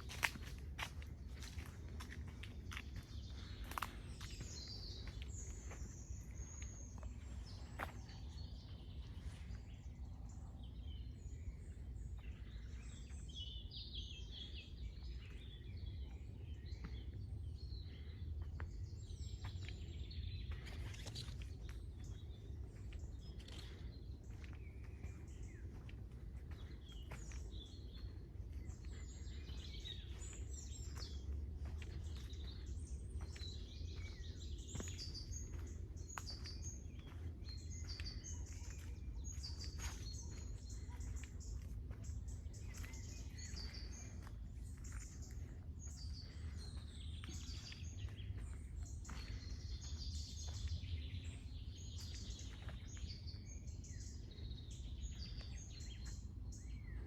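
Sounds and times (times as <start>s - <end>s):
songbirds chirping and singing: 0.0s - 57.0s
steady low rumble: 0.0s - 57.0s.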